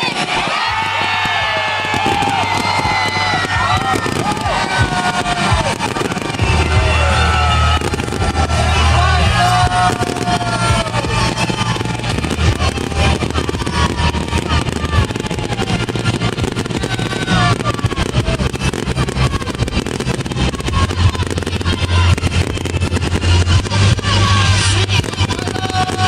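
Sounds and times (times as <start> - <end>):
fireworks crackling pops: 0.0 - 26.0
people's voices: 0.0 - 26.0
low rumble: 1.5 - 26.0.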